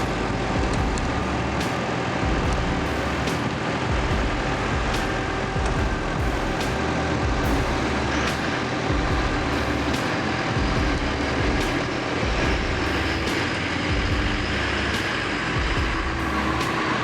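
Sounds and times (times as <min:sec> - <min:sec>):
heavy truck engine rumble: 0:00.0 - 0:17.0
road noise: 0:00.0 - 0:17.0.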